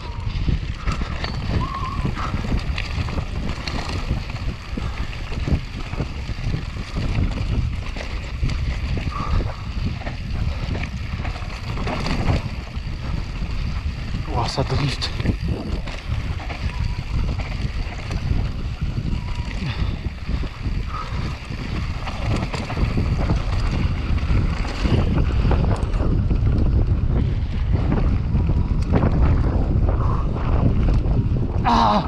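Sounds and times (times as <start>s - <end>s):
tyres rolling on gravel: 0.0s - 29.8s
bike rattling and knocking: 0.0s - 32.0s
wind buffeting the microphone: 0.0s - 32.0s.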